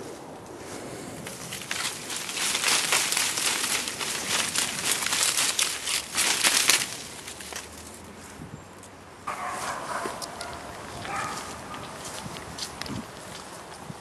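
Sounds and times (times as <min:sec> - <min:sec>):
dry leaves rustling and crunching: 0:00.0 - 0:14.0.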